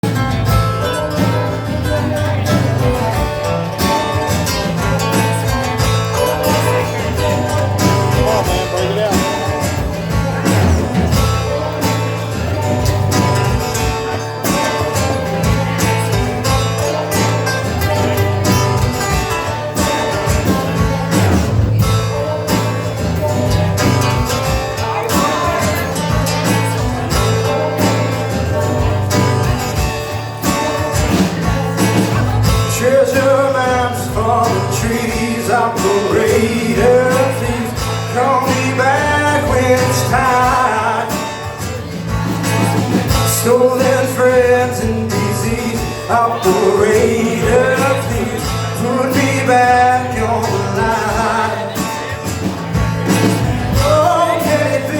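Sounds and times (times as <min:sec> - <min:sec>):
country band with guitar: 0:00.0 - 0:54.9.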